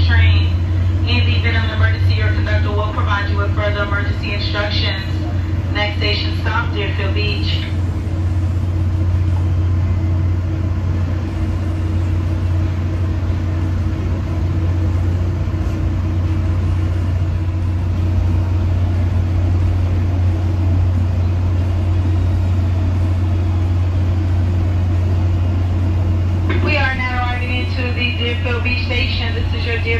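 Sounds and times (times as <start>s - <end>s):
train low hum: 0.0s - 29.9s
train rumbling road noise: 0.0s - 29.9s.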